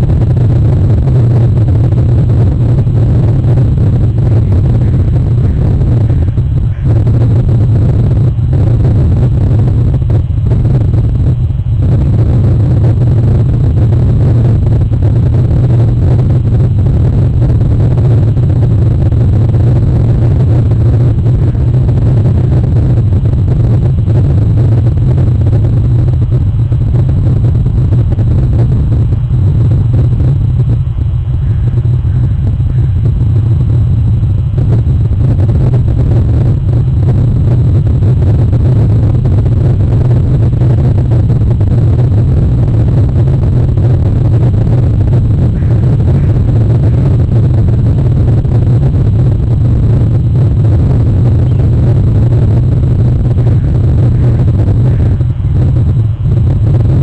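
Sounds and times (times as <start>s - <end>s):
loud low rumble: 0.0s - 57.0s.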